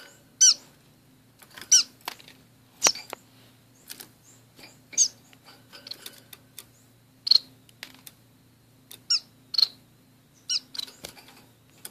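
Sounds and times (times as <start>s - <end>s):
finches chirping: 0.0s - 0.8s, 1.6s - 7.7s, 8.9s - 11.9s.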